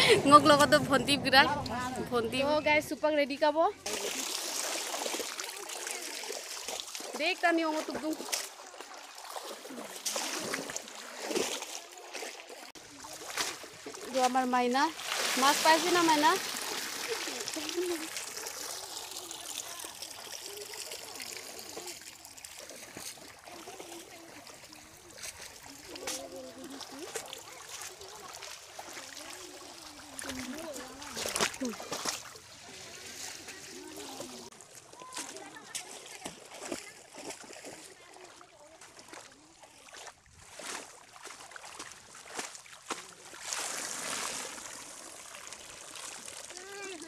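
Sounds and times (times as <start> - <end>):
shallow water trickling and splashing: 1.9 - 47.0.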